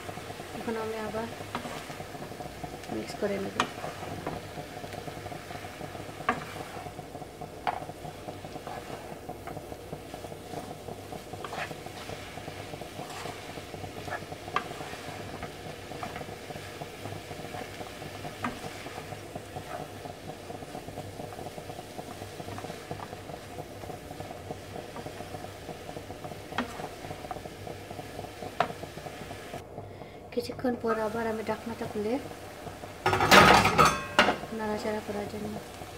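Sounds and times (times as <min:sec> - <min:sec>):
food sizzling in a frying pan: 0:00.0 - 0:35.9.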